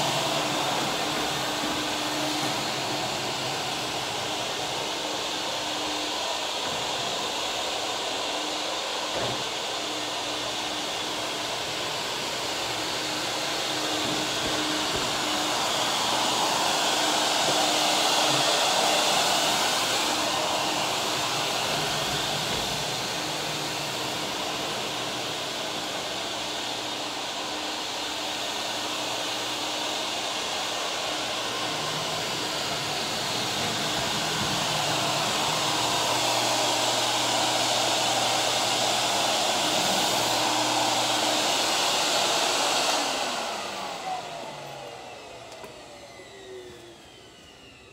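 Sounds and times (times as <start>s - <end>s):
industrial vacuum running: 0.0s - 47.9s.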